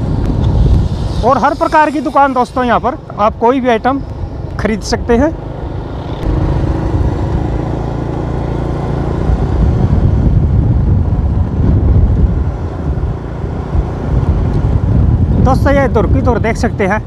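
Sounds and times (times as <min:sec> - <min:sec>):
motorcycle engine rumble: 0:00.0 - 0:15.4.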